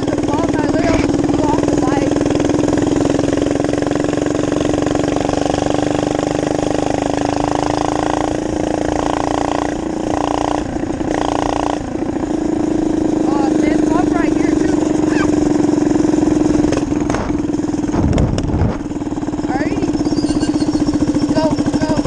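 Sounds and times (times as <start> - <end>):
minibike engine running: 0.0 - 22.0.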